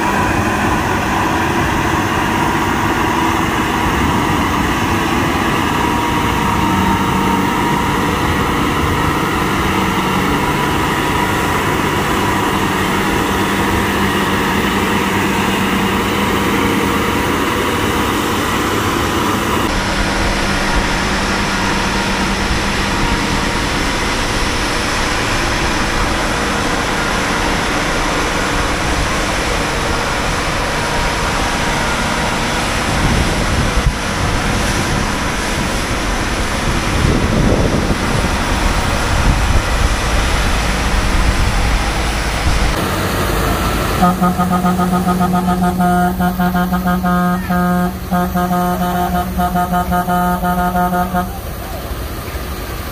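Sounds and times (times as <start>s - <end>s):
wind buffeting microphone: 0.0s - 42.8s
diesel truck engines running: 0.0s - 52.9s
noisy rumble: 0.0s - 52.9s.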